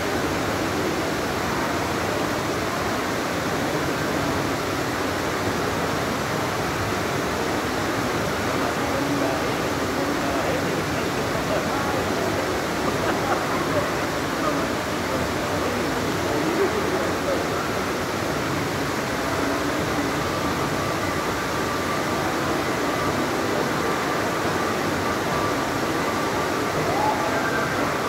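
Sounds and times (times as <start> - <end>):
rush of falling water: 0.0 - 28.0.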